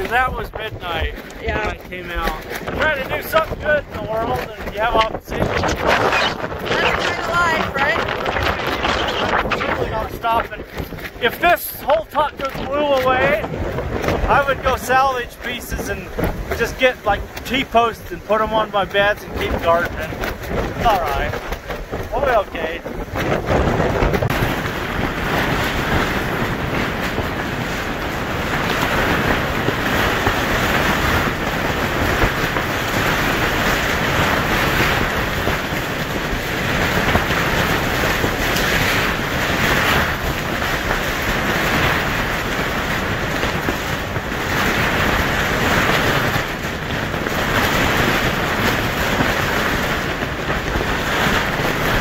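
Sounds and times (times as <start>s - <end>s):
wind gusts flapping plastic sheeting: 0.0s - 52.0s
wind noise on microphone: 0.0s - 52.0s.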